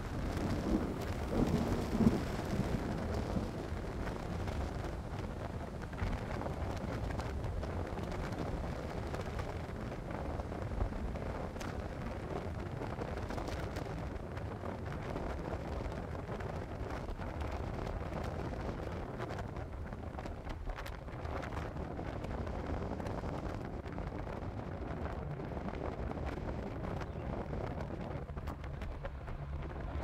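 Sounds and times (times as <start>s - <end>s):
low rumble of thunder: 0.0s - 30.0s
wind buffeting microphone: 0.0s - 30.0s.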